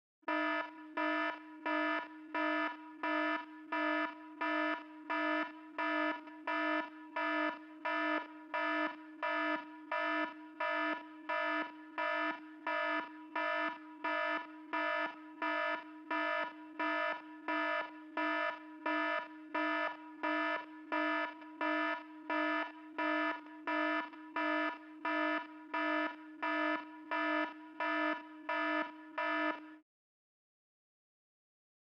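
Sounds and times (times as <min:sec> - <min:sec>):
buzzy electronic alarm beeps: 0:00.3 - 0:29.8.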